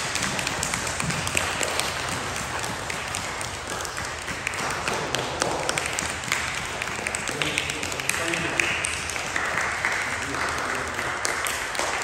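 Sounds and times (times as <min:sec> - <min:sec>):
audience clapping: 0:00.0 - 0:12.0.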